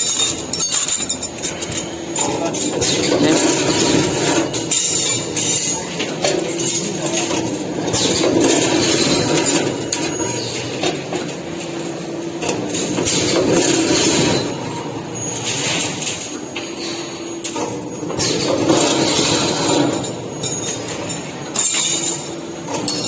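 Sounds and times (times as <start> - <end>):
wire bending machine: 0.0 - 23.0.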